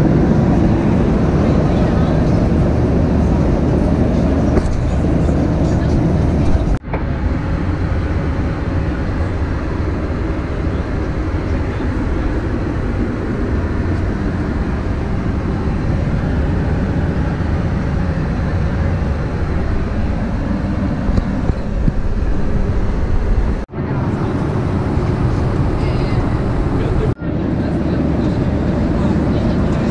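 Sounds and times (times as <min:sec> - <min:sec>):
airplane cabin engine rush: 0:00.0 - 0:29.9.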